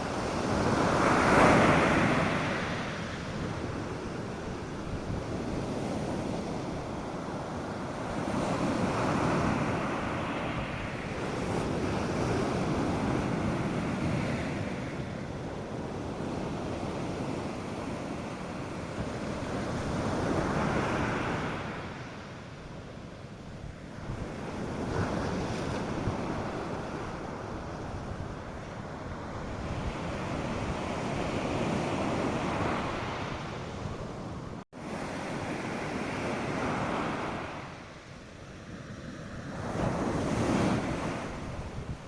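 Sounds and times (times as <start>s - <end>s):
surf breaking on a beach: 0.0s - 42.0s
wind on microphone: 0.0s - 42.0s.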